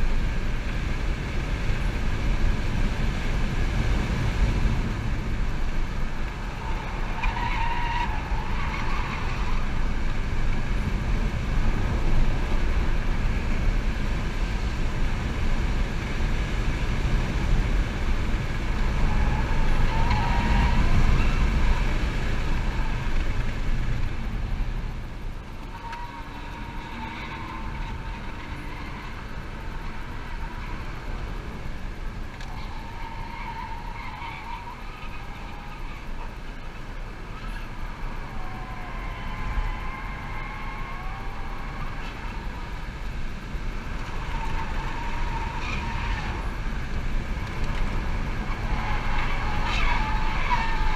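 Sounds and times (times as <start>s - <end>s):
road and wind noise in car: 0.0s - 50.9s.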